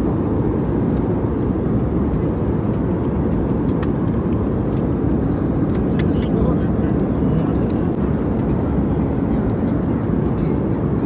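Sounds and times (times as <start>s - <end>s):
jet engine drone and rushing air: 0.0s - 11.0s.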